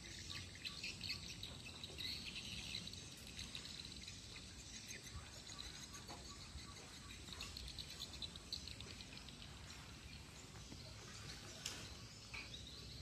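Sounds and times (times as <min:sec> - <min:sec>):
high chirping: 0:00.0 - 0:13.0.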